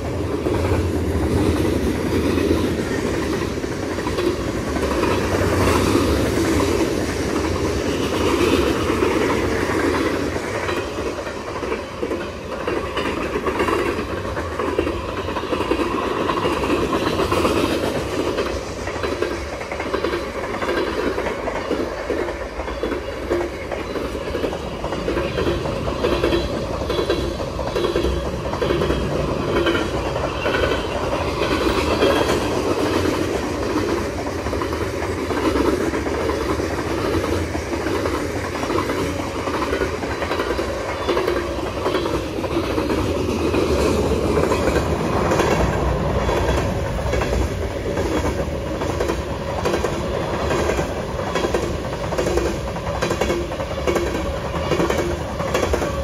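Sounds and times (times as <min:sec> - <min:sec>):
train wheels on rails: 0:00.0 - 0:56.0
wheels clacking over track: 0:00.0 - 0:56.0.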